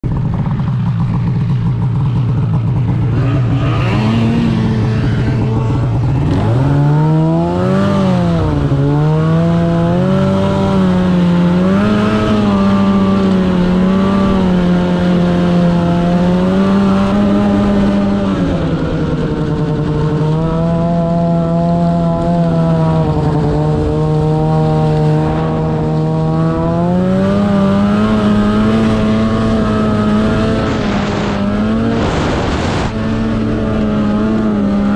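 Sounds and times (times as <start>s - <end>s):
snowmobile engine revving: 0.2s - 34.9s.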